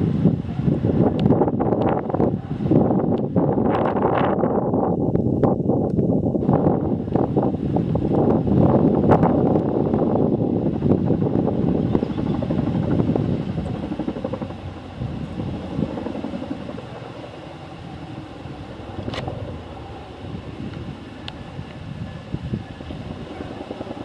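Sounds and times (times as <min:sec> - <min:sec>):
helicopter rotors beating: 0:00.0 - 0:05.0, 0:06.4 - 0:24.0.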